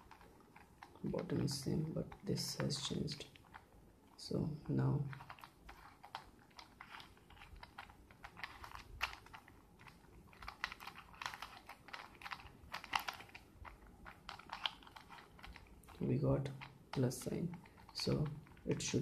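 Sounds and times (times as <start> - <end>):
puzzle cube layers clicking: 0.0 - 3.7, 4.3 - 19.0.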